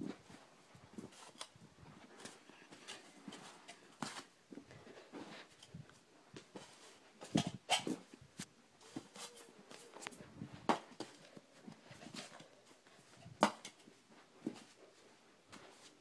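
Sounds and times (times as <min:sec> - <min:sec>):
handling knocks and rustles: 0:00.0 - 0:16.0.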